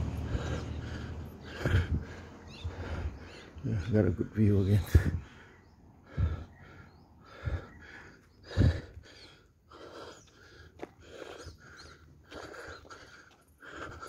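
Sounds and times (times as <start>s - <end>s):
person breathing hard: 0.0s - 3.6s, 4.9s - 14.0s.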